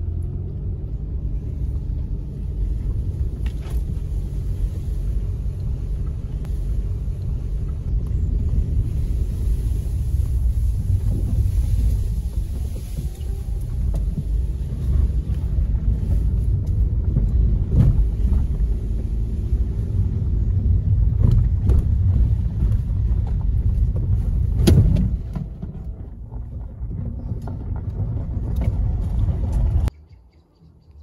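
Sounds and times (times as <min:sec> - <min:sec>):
car rumbling over rough ground: 0:00.0 - 0:30.0.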